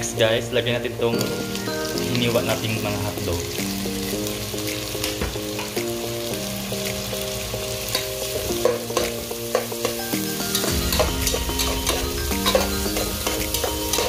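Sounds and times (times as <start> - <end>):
food sizzling in hot oil: 0.0 - 14.0
simple background music: 0.0 - 14.0.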